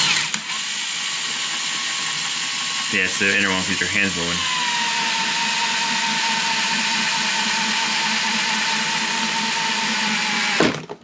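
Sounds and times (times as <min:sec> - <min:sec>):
drill motor whine: 0:00.0 - 0:10.8
hole saw cutting plastic: 0:00.0 - 0:11.0.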